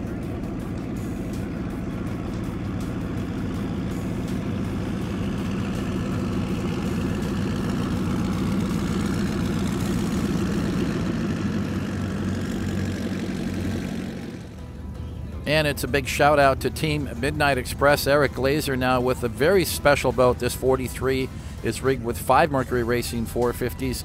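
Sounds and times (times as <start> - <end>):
boat engines idling: 0.0 - 24.0.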